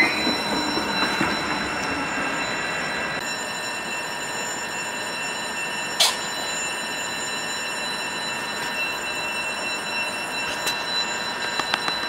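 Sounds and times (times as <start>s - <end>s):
electric train humming and whining: 0.0s - 12.0s.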